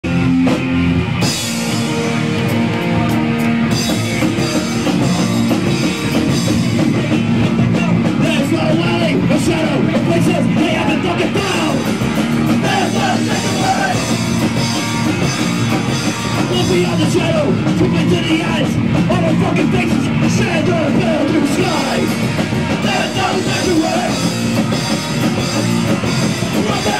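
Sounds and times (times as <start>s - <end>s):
punk rock band playing live: 0.0s - 26.9s.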